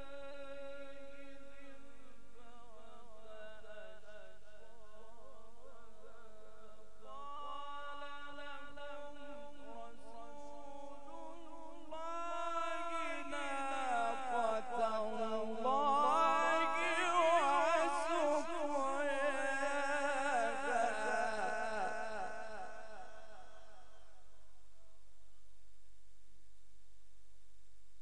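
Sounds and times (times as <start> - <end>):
man reciting in melismatic chant: 0.0 - 25.0.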